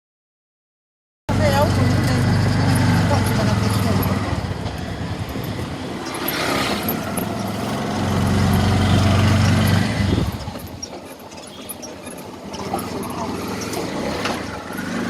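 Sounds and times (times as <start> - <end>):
vehicle engine running: 1.3 - 15.0.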